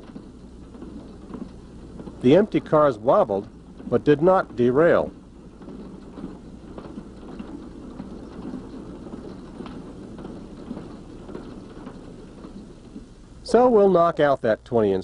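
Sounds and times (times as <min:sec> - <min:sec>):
wheel clicks: 0:00.0 - 0:14.1
freight cars rolling on rails: 0:00.0 - 0:15.0.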